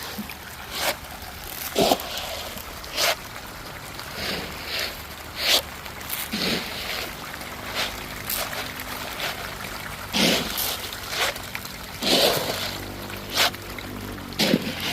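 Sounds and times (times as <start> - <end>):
water splashing: 0.0 - 14.9.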